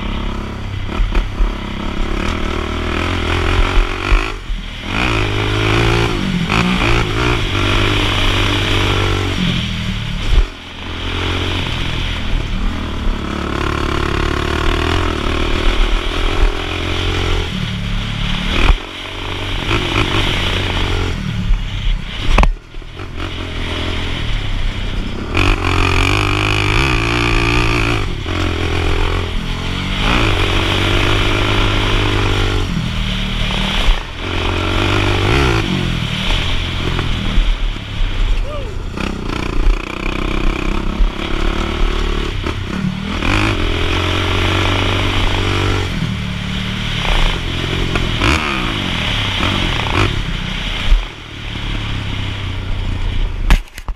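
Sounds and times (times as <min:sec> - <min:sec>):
quad engine revving: 0:00.0 - 0:52.3.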